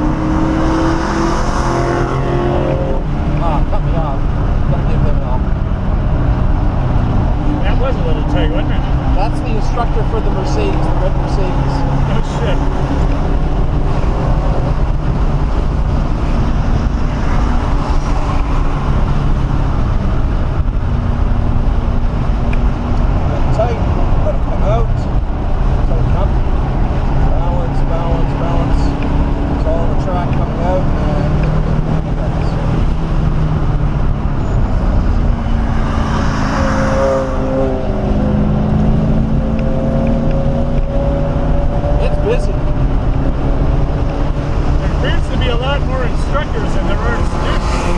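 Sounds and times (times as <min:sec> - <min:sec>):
car engine running hard: 0:00.0 - 0:47.9
road noise: 0:00.0 - 0:47.9.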